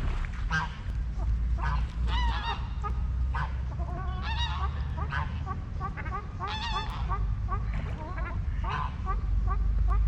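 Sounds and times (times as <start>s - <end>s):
steady low rumble: 0.0s - 10.0s
waterfowl honking and calling: 0.5s - 10.0s.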